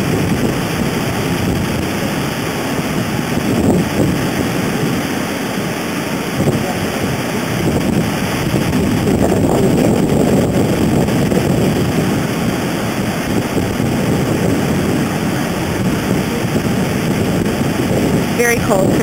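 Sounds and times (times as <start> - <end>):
ocean surf: 0.0 - 19.0
wind buffeting microphone: 0.0 - 19.0.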